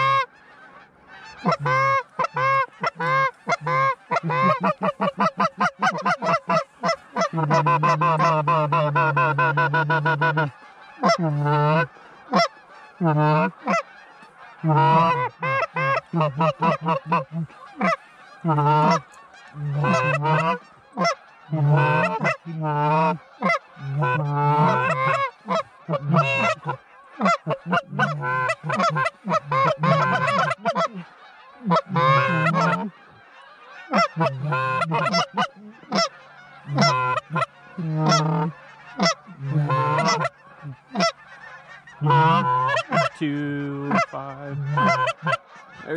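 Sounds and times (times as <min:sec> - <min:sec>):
goose honking: 0:00.0 - 0:45.9.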